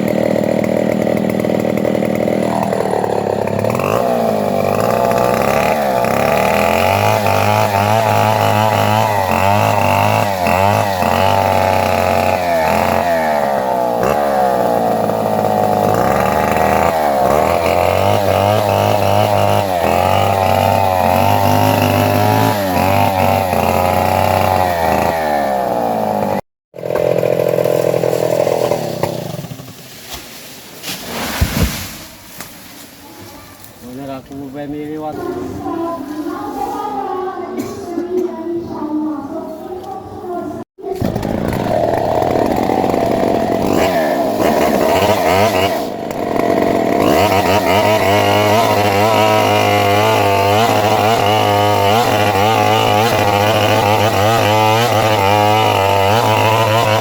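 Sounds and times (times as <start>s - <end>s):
chainsaw cutting wood: 0.0s - 32.5s, 40.8s - 57.0s.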